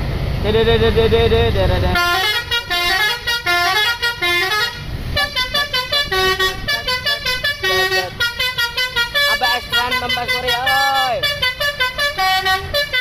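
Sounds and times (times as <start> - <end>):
bus horn playing a fast tune: 0.7 - 13.0.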